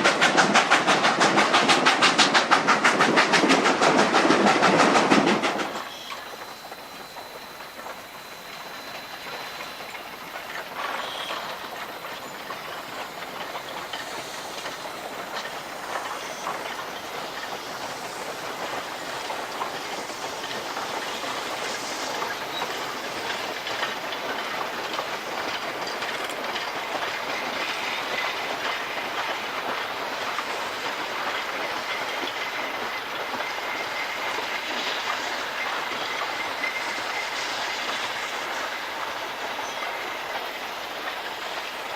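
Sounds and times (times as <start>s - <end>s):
train wheels clicking over rail joints: 0.0s - 41.9s.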